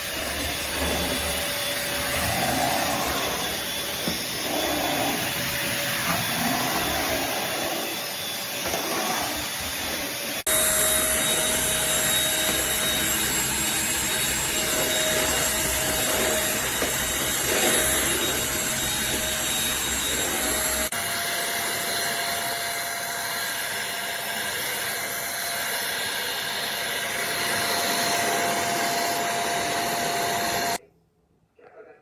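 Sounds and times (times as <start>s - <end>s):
stick vacuum whining: 0.0s - 30.8s.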